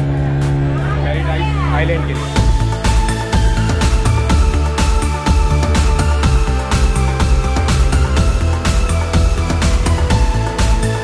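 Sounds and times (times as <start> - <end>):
electronic music with steady beat: 2.2 - 11.0.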